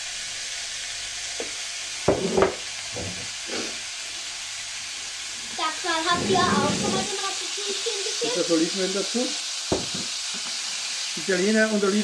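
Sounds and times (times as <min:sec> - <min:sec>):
tomatoes sizzling in a pot: 0:00.0 - 0:12.0.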